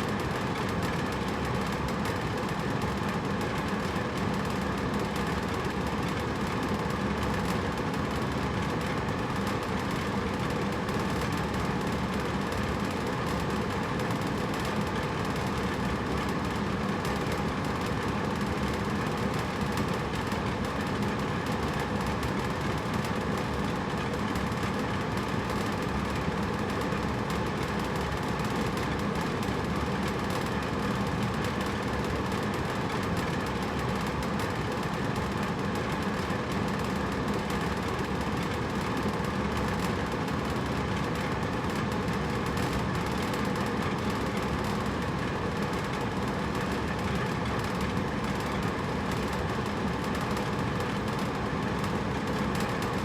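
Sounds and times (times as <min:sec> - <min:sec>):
air conditioner humming: 0:00.0 - 0:53.0.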